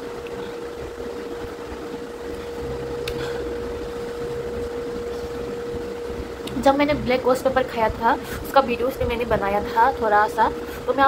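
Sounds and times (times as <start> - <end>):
steady appliance hum: 0.0 - 11.0.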